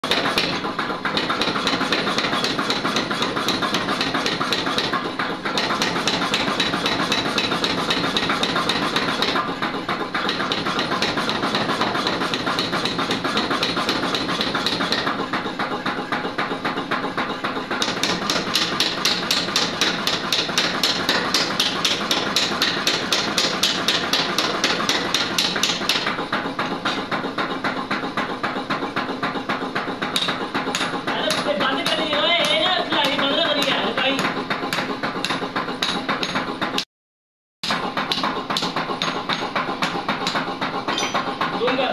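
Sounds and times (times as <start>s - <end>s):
power hammer pounding iron: 0.0s - 36.9s, 37.6s - 41.9s.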